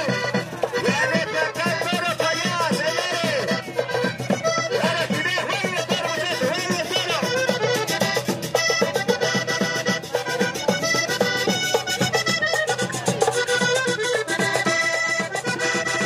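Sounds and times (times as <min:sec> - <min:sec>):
accordion-led folk music: 0:00.0 - 0:16.0
quick percussion beat: 0:00.0 - 0:16.0.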